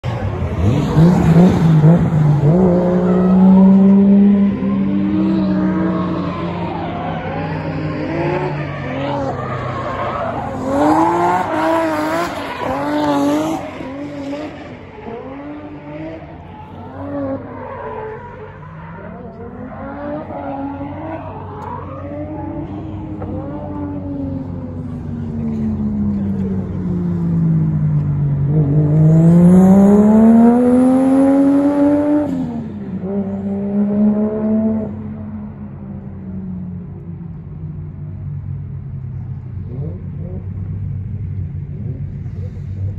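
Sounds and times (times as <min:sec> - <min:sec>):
car engines revving hard: 0:00.0 - 0:42.9.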